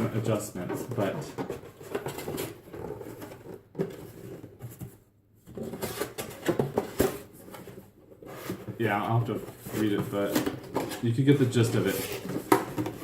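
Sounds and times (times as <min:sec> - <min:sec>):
cardboard rustling and scraping: 0:00.0 - 0:13.0.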